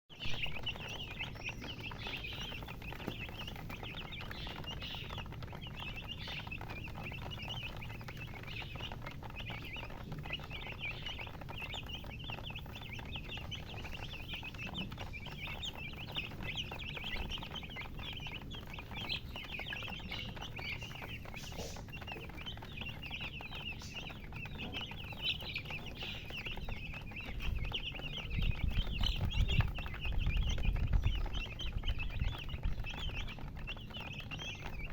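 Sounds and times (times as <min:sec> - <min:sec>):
chicks peeping: 0:00.1 - 0:34.9.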